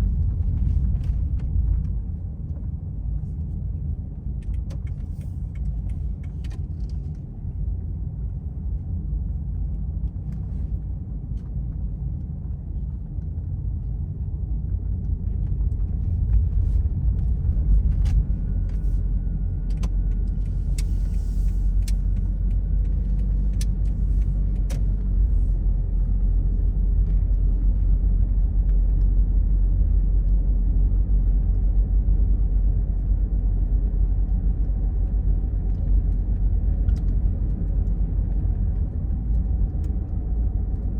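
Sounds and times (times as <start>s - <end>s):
car driving on road: 0.0s - 40.9s.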